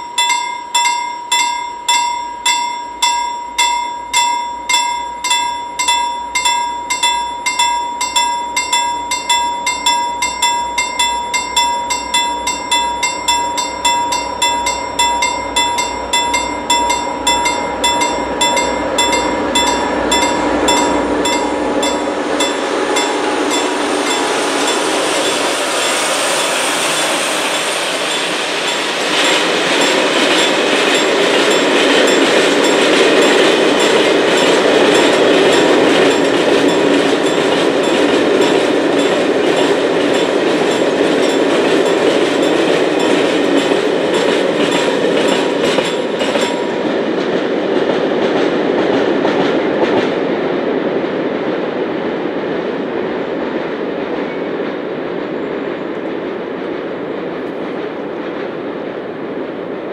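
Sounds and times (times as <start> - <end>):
train wheels clattering: 0.0 - 51.3
train rumble: 0.0 - 59.9.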